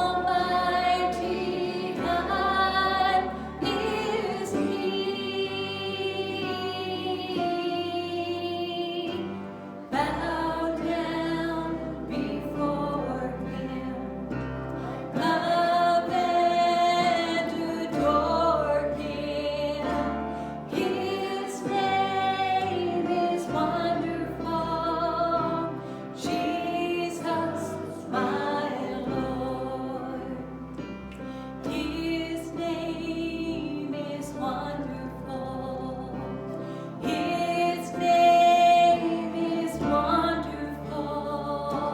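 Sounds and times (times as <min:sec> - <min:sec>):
worship singing: 0:00.0 - 0:41.9.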